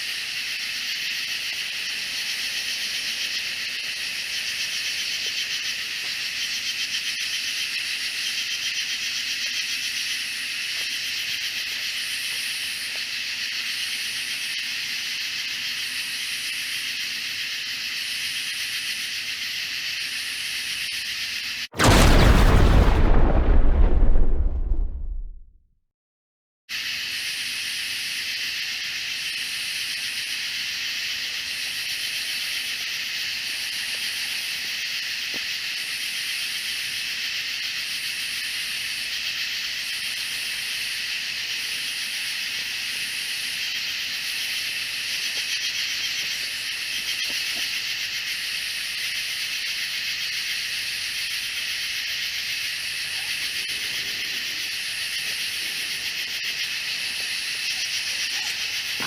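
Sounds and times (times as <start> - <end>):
insects buzzing drone: 0.0 - 22.0, 26.8 - 59.0.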